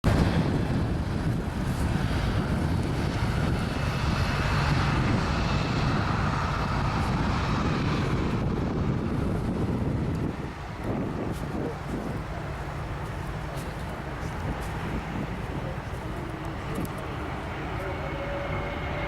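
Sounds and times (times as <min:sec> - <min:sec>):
jet engine rush: 0:00.0 - 0:19.0.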